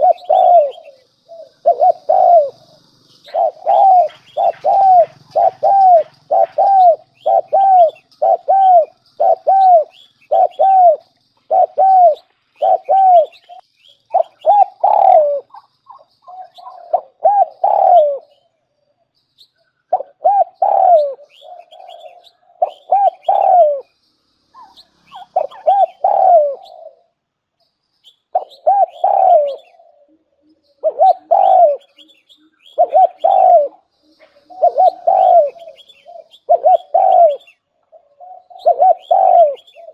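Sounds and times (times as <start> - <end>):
dove cooing: 0.0 - 18.5, 19.8 - 27.2, 28.3 - 39.9.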